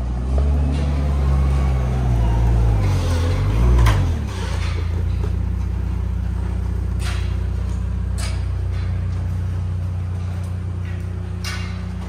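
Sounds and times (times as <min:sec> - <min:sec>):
loader engine idling: 0:00.0 - 0:12.0.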